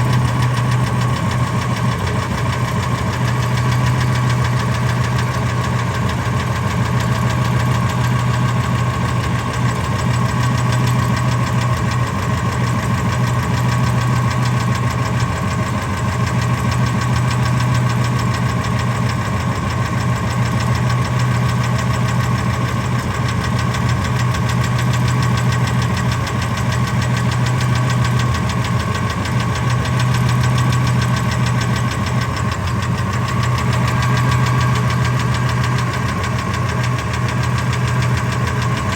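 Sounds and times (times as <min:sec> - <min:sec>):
engine idling: 0:00.0 - 0:38.9
fast even engine ticking: 0:00.0 - 0:38.9.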